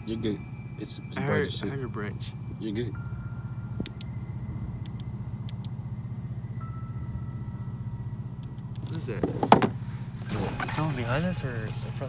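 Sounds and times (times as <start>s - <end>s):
low fluttering rumble: 0.0s - 12.0s.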